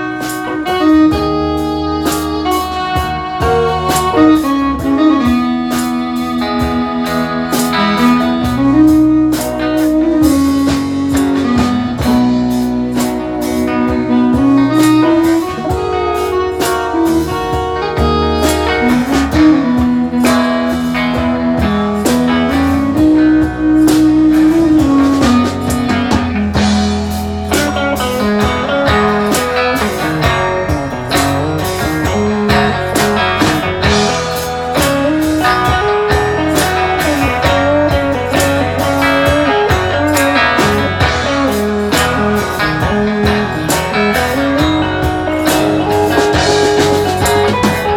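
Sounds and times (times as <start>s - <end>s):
lead guitar: 0.0s - 47.9s
live blues band playing: 0.0s - 47.9s.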